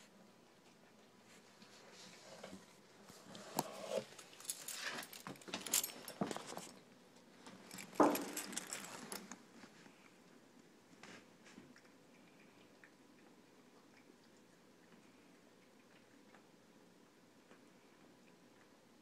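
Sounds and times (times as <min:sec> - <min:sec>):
cat eating from bowl: 0:00.0 - 0:19.0.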